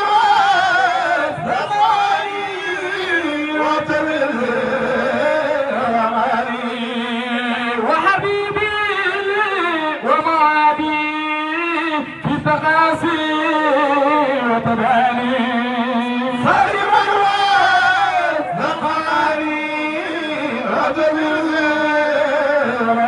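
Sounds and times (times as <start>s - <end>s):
men singing a chant: 0.0s - 23.0s.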